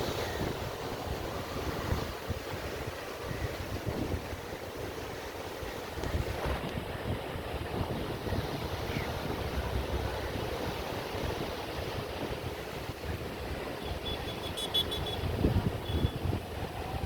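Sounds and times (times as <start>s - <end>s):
wind buffeting microphone: 0.0s - 14.1s, 14.9s - 17.0s
sea waves washing on shore: 0.0s - 17.0s.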